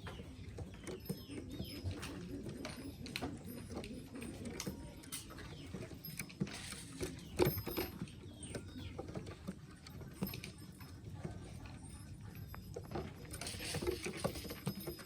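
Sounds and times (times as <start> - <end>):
pigeons tapping and scrabbling: 0.0 - 15.0.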